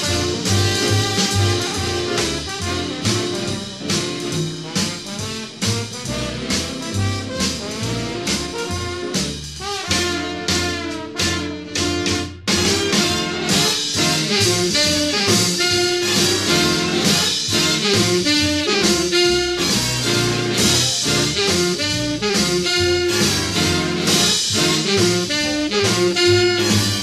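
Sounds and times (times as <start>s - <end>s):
upbeat swing jazz with brass: 0.0s - 27.0s.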